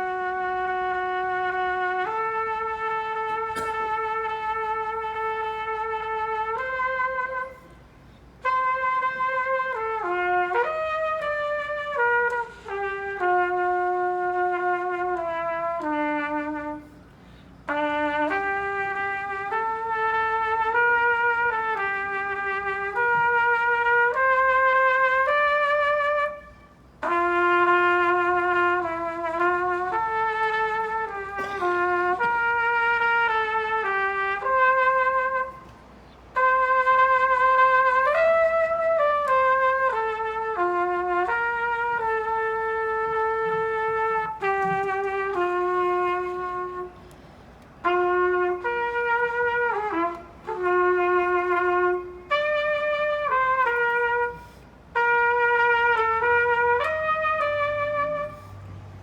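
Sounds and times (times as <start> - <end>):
solo trumpet melody: 0.0 - 59.0.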